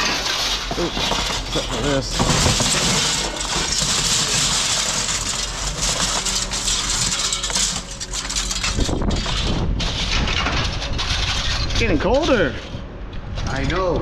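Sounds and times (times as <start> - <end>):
metal rattling: 0.0 - 13.6.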